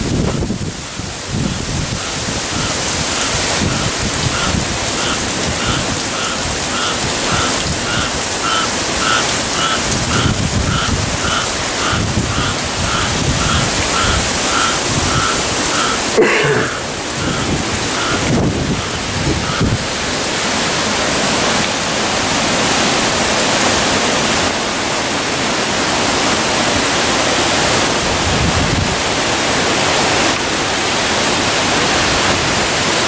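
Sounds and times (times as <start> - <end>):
heavy rain pouring through trees: 0.0 - 33.0
wind gusts on microphone: 0.0 - 33.0.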